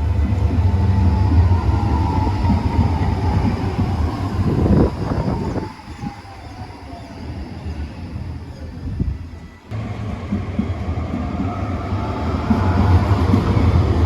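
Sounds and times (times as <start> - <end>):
tram drive whine falling in pitch: 0.0 - 14.0
tram low rumble: 0.0 - 14.0.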